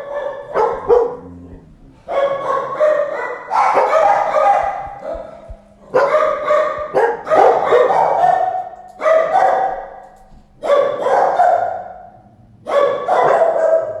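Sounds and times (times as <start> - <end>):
dog barking: 0.0 - 14.0.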